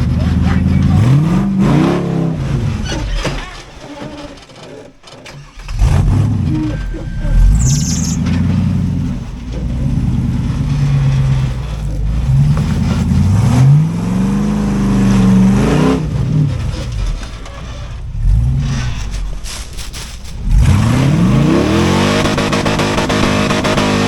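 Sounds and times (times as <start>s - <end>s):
engine revving under load: 0.0s - 24.0s.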